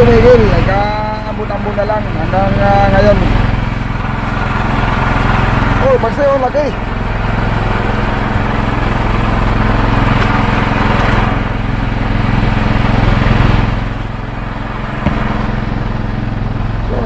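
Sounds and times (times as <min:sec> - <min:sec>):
boat engine humming: 0:00.0 - 0:17.0
noisy rush: 0:00.0 - 0:17.0.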